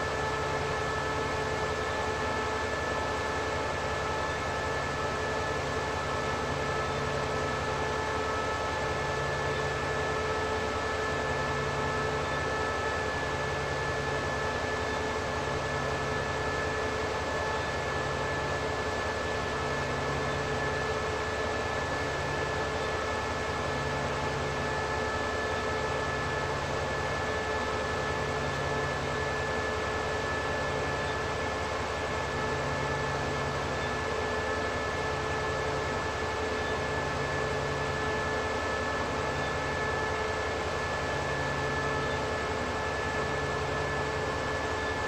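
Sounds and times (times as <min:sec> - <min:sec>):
constant high whine: 0:00.0 - 0:45.0.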